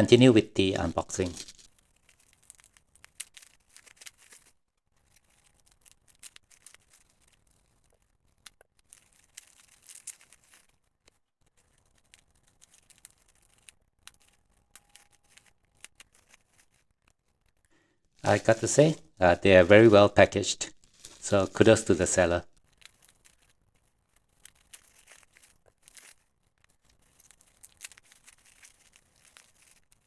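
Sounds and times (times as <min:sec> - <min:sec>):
light clicks and crinkles: 0:00.8 - 0:30.0
packing material rustling: 0:00.8 - 0:30.0.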